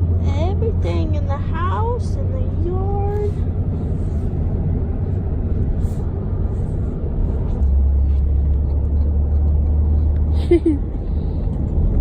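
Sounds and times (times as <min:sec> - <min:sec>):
road and engine noise in car cabin: 0:00.0 - 0:12.0.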